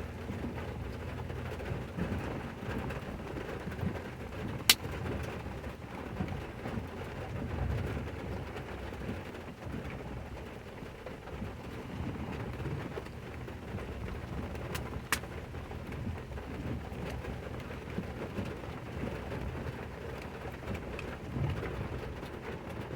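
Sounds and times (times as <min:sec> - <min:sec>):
steady rain: 0:00.0 - 0:22.9.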